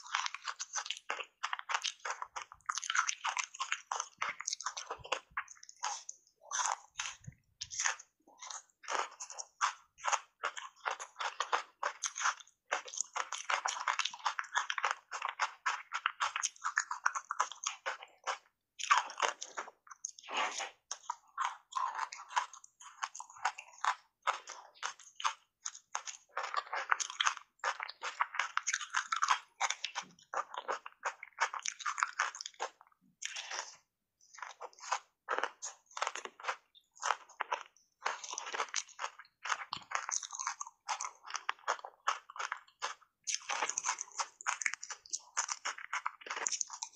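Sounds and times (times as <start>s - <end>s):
chewing crunchy ice: 0.0s - 46.9s.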